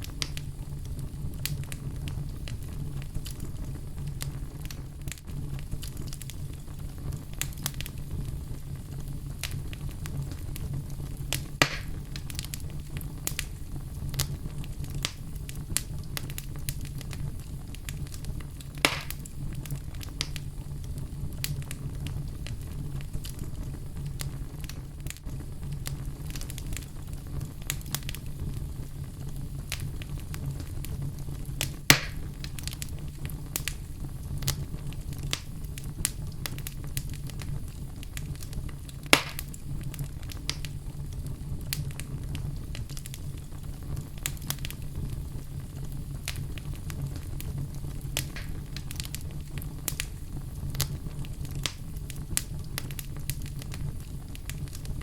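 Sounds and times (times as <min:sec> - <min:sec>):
wood fire burning: 0:00.0 - 0:55.0.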